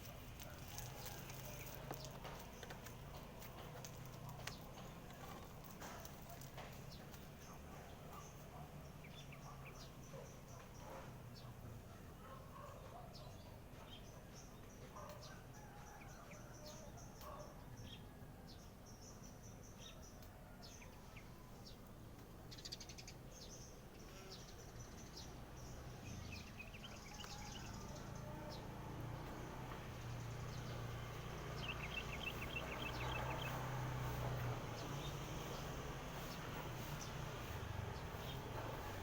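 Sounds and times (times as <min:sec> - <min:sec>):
small birds chirping: 0:00.0 - 0:15.4, 0:16.3 - 0:39.0.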